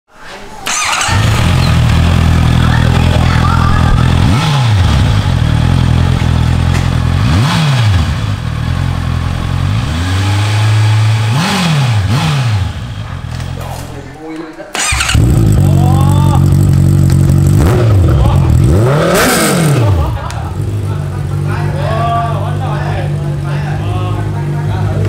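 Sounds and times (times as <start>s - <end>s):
motorcycle engine idling and revving: 0.6s - 13.9s, 14.8s - 25.0s.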